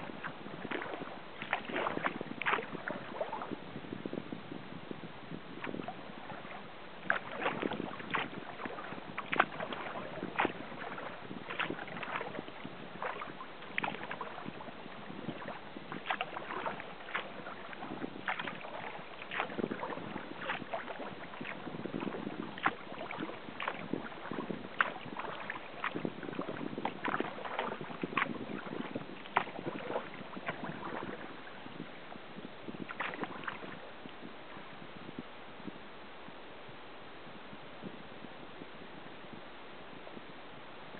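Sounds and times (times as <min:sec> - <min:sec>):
paddle splashing and dripping: 0:00.0 - 0:03.7, 0:05.5 - 0:34.8.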